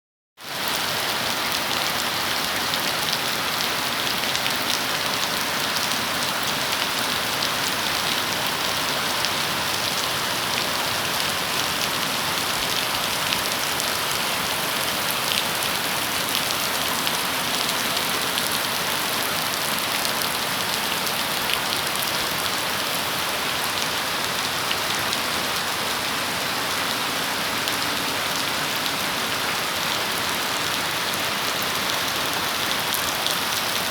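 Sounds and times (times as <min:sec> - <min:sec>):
steady rain falling: 0:00.4 - 0:33.9.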